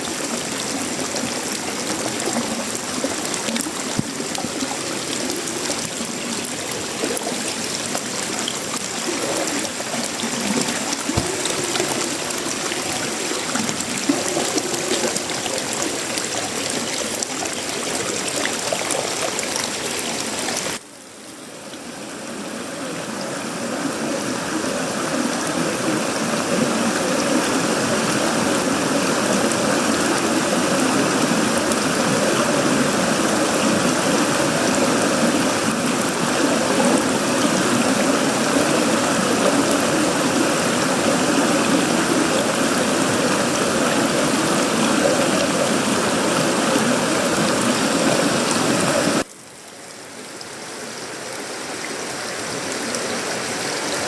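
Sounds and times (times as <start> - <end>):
heavy rain rushing: 0.0 - 49.3.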